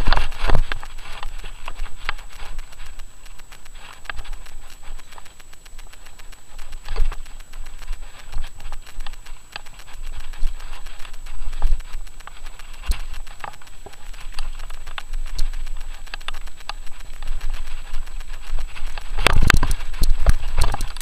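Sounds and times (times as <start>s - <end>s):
bike rattles and knocks: 0.0s - 3.1s, 3.7s - 21.0s
tyres crunching on gravel: 0.0s - 21.0s
wind rumble on microphone: 0.0s - 21.0s.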